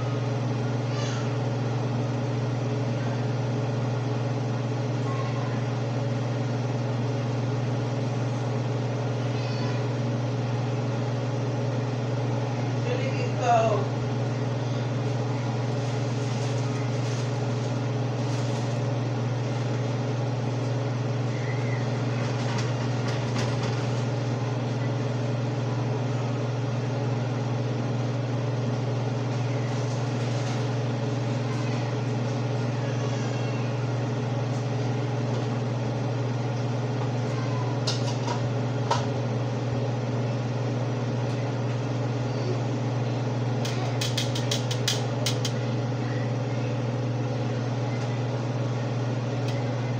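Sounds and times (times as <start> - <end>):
exhaust fan humming: 0.0 - 49.9.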